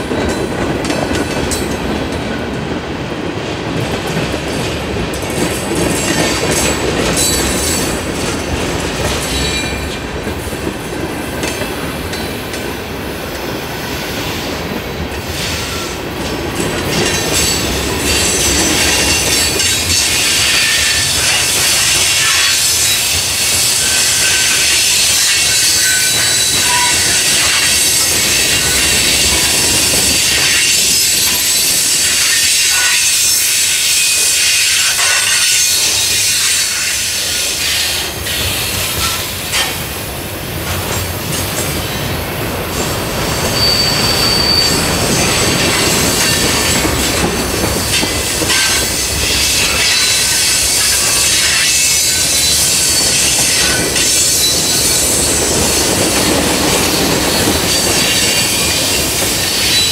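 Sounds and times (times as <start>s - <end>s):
railroad cars rolling on track: 0.0s - 59.9s.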